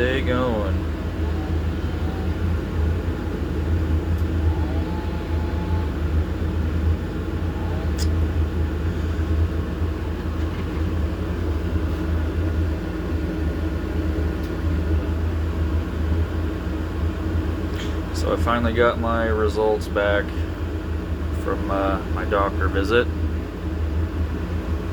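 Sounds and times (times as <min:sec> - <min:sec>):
excavator diesel engine droning: 0:00.0 - 0:24.9.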